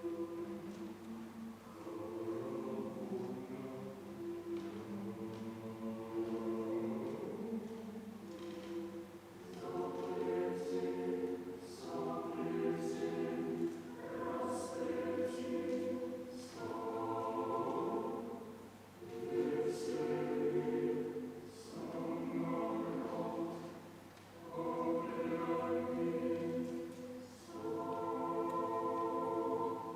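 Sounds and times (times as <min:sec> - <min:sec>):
choir singing: 0:00.0 - 0:29.9.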